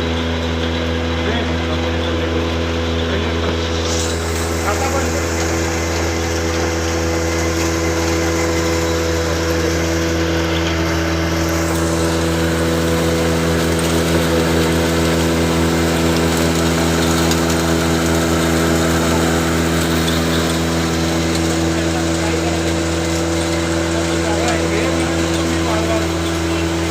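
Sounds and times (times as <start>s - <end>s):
grinder running: 0.0s - 26.9s.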